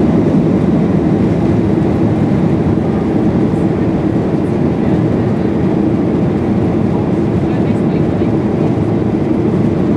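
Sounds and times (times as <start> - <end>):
jet engine low rumble in cabin: 0.0 - 9.9.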